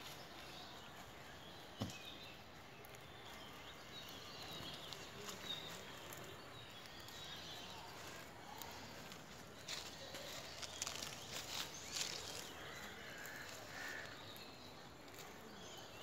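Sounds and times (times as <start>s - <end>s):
soft rustles in weeds: 0.0s - 16.0s.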